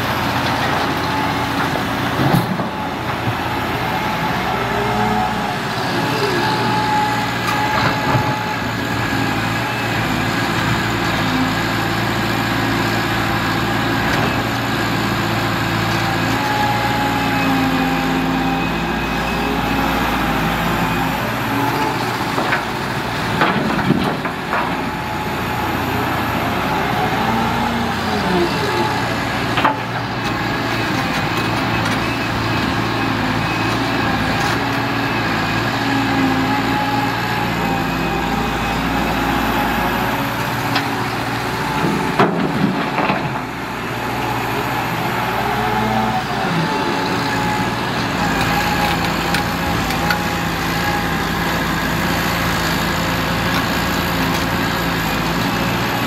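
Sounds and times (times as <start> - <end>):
excavator diesel engine: 0.0 - 56.0
hydraulics whining: 0.0 - 56.0.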